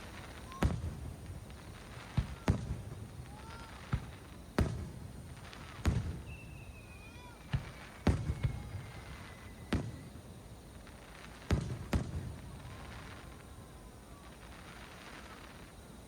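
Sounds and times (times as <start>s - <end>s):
falling firework whistle: 0.0s - 15.9s.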